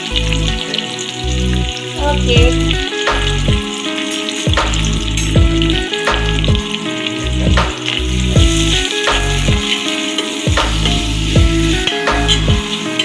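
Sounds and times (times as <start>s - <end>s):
background music with a beat: 0.0s - 13.0s
onions sizzling in a pot: 0.0s - 13.0s.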